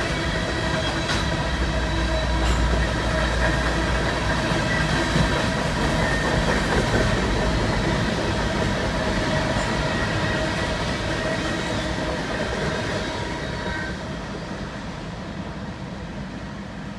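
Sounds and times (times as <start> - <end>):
freight train wheels rumbling: 0.0 - 16.9.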